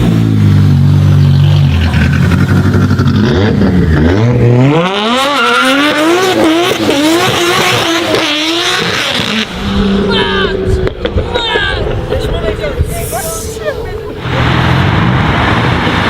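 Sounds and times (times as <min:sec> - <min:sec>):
sports car engine accelerating: 0:00.0 - 0:12.9.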